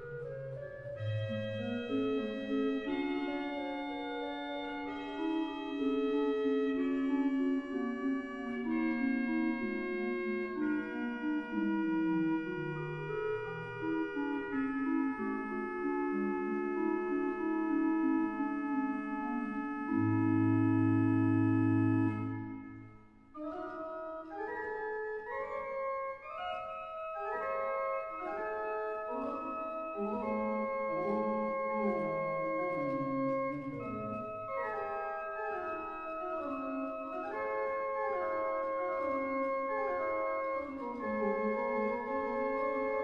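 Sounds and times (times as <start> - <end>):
slow instrumental music: 0.0 - 43.0.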